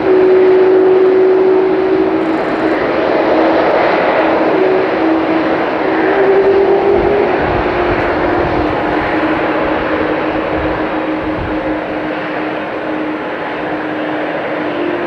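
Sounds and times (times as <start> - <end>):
jet engines roaring at takeoff: 0.0 - 15.0.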